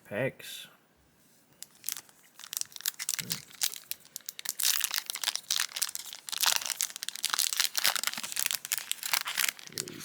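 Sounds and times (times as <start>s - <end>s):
foil wrapper crinkling: 1.6s - 10.0s.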